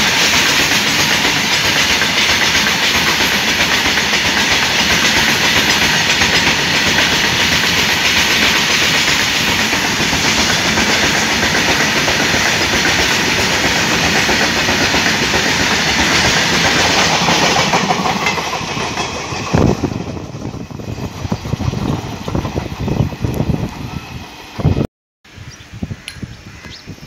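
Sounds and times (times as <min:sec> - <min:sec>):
freight train rolling past: 0:00.0 - 0:24.9.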